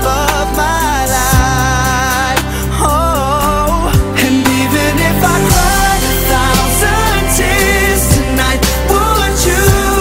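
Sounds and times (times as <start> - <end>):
pop song with steady beat: 0.0 - 10.0.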